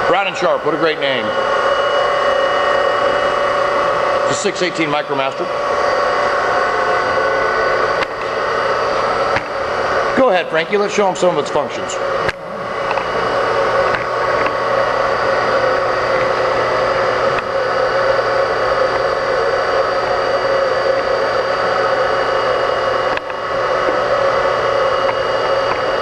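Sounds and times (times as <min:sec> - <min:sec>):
surface grinder humming and whining: 0:00.0 - 0:26.0.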